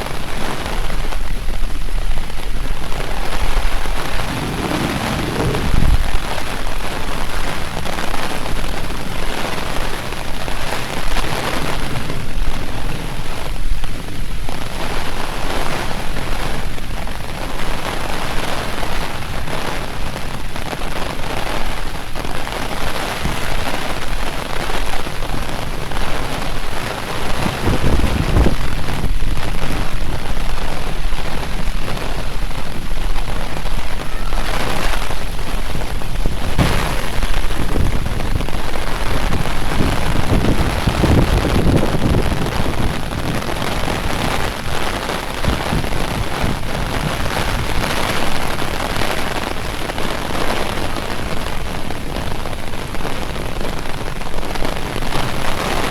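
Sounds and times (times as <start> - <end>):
low rumbles: 0.0 - 48.8
heavy rain: 0.0 - 55.9.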